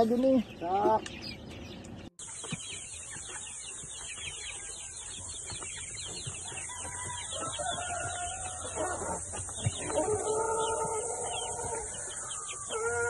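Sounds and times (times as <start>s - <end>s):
chickens clucking: 0.0s - 13.0s
chicks peeping: 0.0s - 13.0s.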